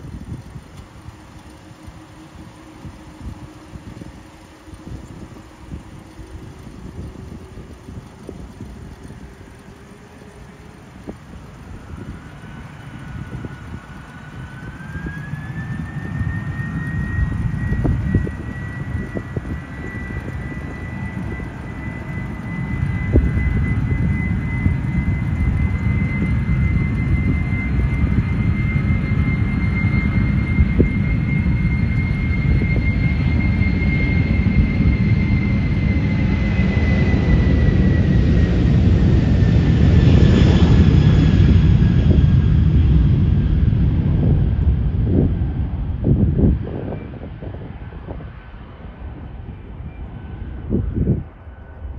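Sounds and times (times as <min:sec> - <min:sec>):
jet engine low rumble: 0:00.0 - 0:51.9
jet engine whine: 0:00.0 - 0:51.9.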